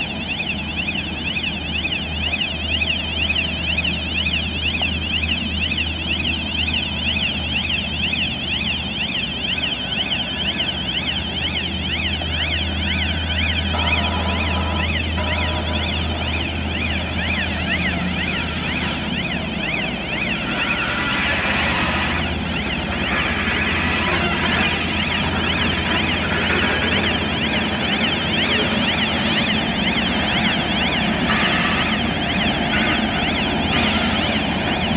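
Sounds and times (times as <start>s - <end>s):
engine running low: 0.0s - 34.9s
warbling warning siren: 0.0s - 34.9s.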